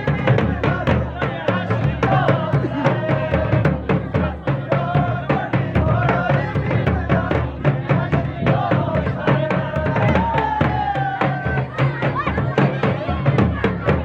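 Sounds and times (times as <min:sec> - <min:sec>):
drums beating steady rhythm: 0:00.0 - 0:14.0.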